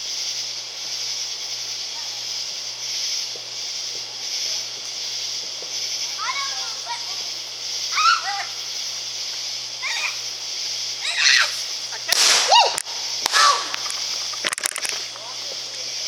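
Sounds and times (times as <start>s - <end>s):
firework crackling: 0.0s - 16.0s
firework sharp pops: 2.2s - 7.9s, 8.6s - 15.9s.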